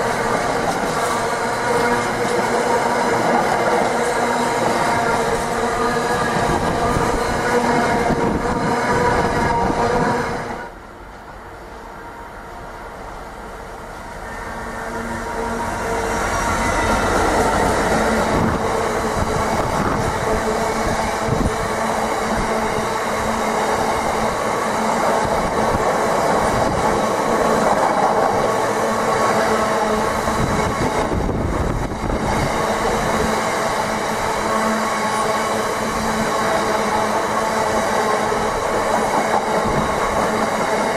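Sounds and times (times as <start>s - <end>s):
train wheels on rails: 0.0s - 40.9s.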